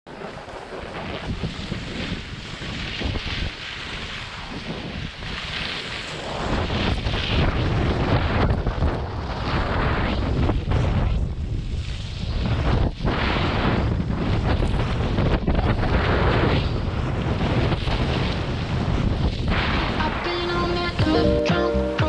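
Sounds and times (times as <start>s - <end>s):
wind buffeting microphone: 0.1s - 21.0s
skis sliding on snow: 0.1s - 21.4s.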